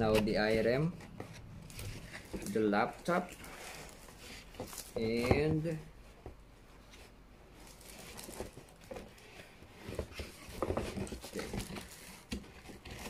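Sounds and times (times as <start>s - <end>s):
packaging rustling: 0.0s - 5.8s, 7.6s - 13.0s.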